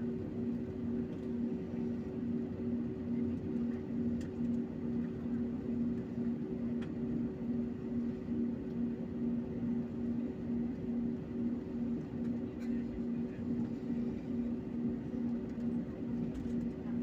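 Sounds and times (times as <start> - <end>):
jet engines droning from cabin: 0.0 - 17.0
pulsing low hum: 0.0 - 17.0.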